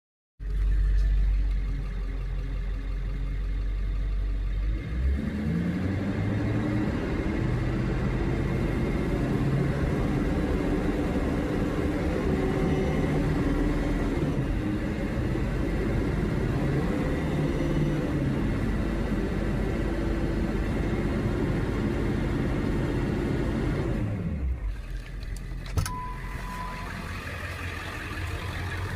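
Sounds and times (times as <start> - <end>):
diesel engine idling and revving: 0.4 - 28.9.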